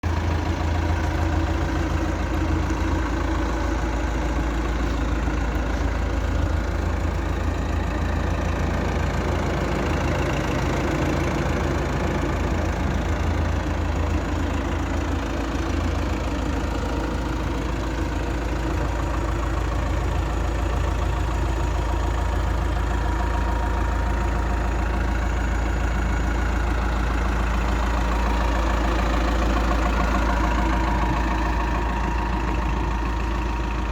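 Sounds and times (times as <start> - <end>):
diesel engine running steadily: 0.0 - 33.9.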